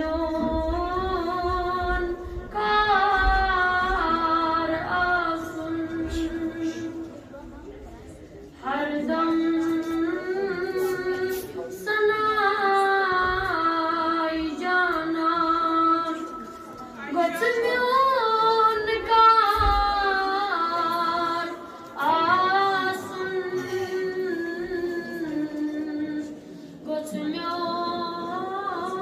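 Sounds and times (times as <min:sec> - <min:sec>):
boy singing unaccompanied: 0:00.0 - 0:07.2, 0:08.6 - 0:16.3, 0:17.1 - 0:29.0.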